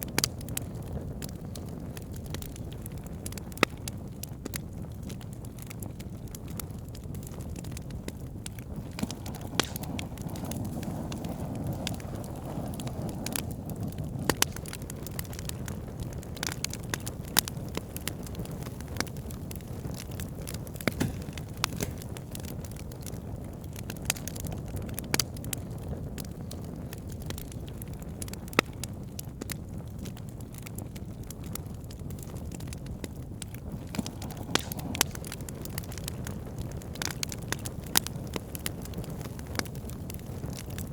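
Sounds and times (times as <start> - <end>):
campfire crackles and pops: 0.0 - 40.9
low rush of flame: 0.0 - 40.9.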